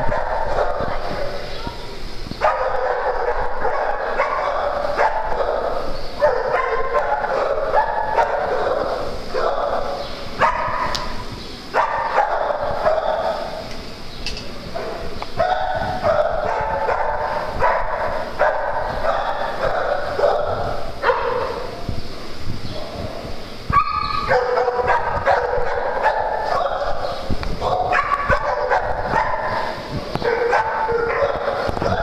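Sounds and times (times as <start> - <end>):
dogs barking: 0.0 - 1.8, 2.4 - 13.7, 14.6 - 22.0, 22.7 - 32.0.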